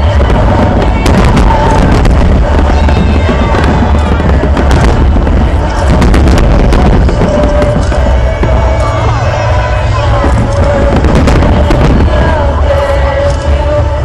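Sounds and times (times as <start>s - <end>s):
firework crackling: 0.0s - 14.0s
music playing: 0.0s - 14.0s.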